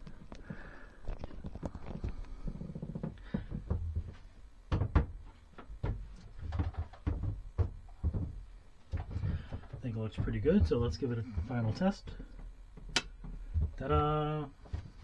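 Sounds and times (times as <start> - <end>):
handling knocks and clunks: 2.8 - 15.0.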